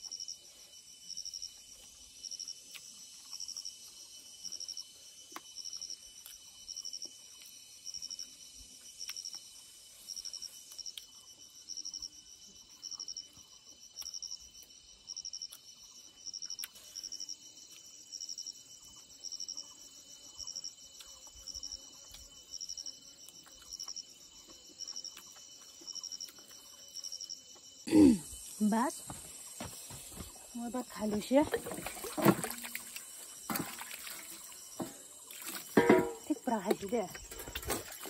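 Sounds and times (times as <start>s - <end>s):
insect chirping trills: 0.0s - 38.0s.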